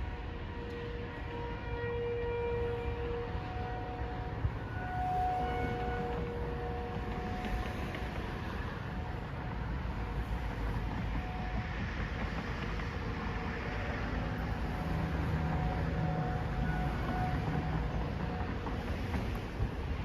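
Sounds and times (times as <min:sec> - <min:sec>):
warning sirens steady tone: 0:00.0 - 0:20.0
passing road traffic rumble: 0:00.2 - 0:20.0.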